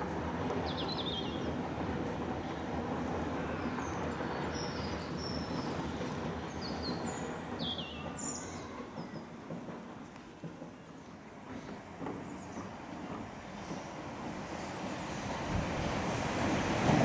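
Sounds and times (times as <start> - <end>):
electric train running over bridge: 0.0 - 17.0.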